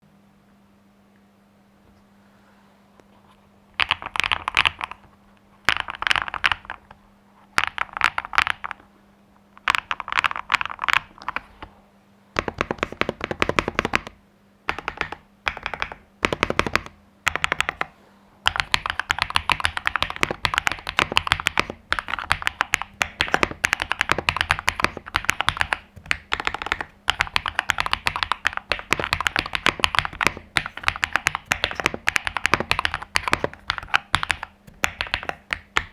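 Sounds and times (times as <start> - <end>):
mechanical keyboard typing: 3.8 - 7.0, 7.6 - 8.8, 9.6 - 11.6, 12.4 - 35.9.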